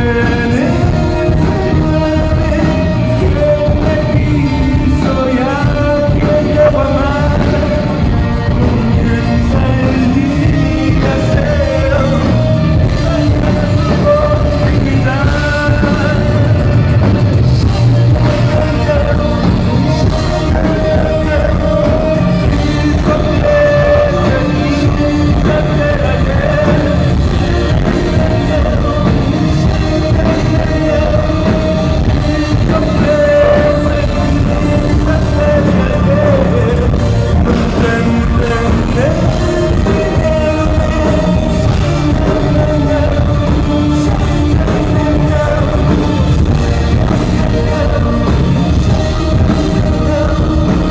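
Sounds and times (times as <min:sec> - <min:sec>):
distorted electric guitar rock: 0:00.0 - 0:50.9.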